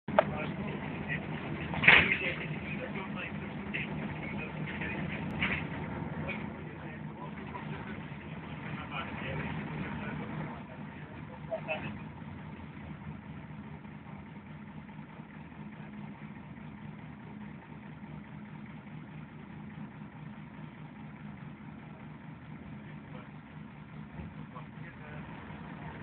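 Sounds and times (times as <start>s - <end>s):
bus diesel engine humming: 0.0s - 26.0s.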